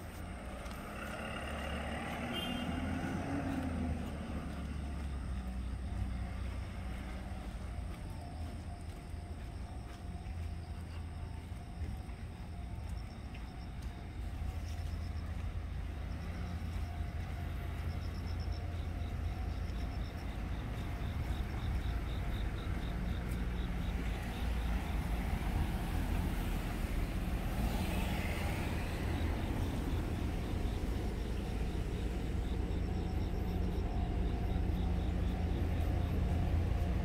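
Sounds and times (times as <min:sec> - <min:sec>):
vehicle passing close: 0:00.0 - 0:07.9, 0:15.2 - 0:37.0
road traffic rumble: 0:00.0 - 0:37.0.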